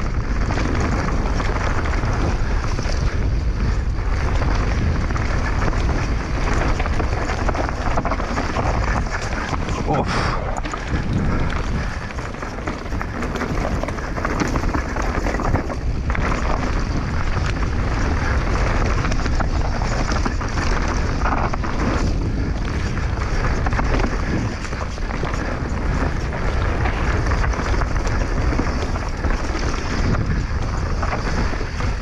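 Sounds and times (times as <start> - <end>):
bike rattling over ground: 0.0 - 32.0
wind rush on microphone: 0.0 - 32.0.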